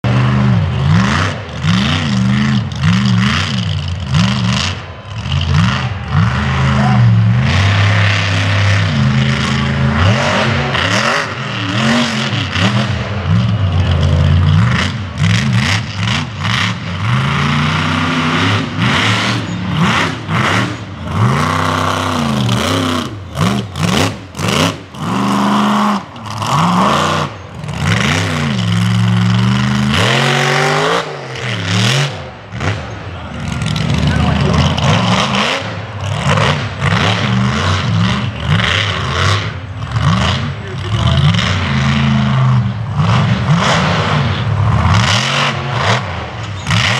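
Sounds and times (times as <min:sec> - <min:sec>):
truck engine revving hard: 0:00.0 - 0:46.9.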